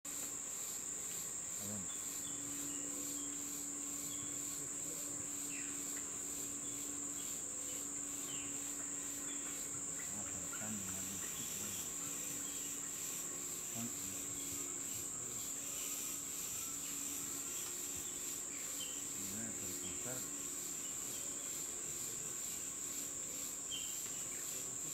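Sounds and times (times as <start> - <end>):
high-pitched insect drone: 0.1 - 24.9
rapidly pulsing buzz: 0.1 - 24.9.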